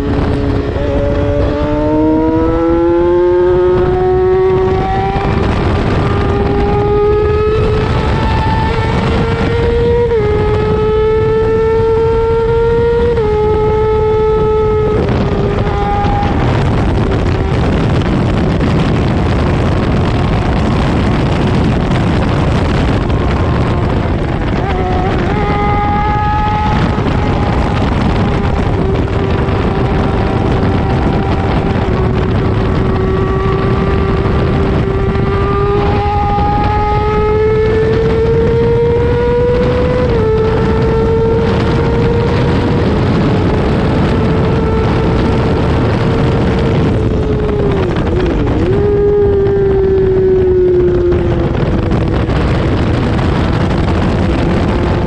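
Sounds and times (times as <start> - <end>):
motorcycle engine at high revs: 0.0 - 55.0
wind rush over microphone: 0.0 - 55.0.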